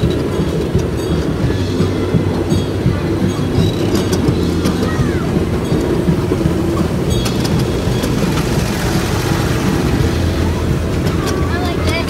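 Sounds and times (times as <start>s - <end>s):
miniature train rumbling on track: 0.0s - 12.0s
sharp clicks of train wheels: 0.0s - 12.0s.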